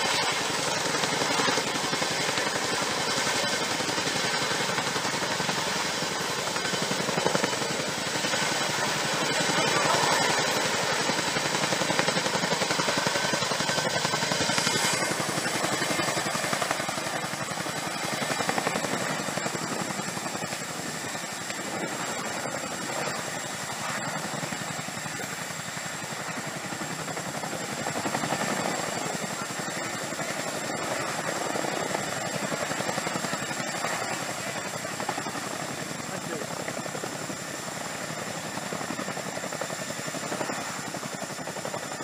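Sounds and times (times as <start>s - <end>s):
helicopter rotors beating: 0.0s - 42.0s.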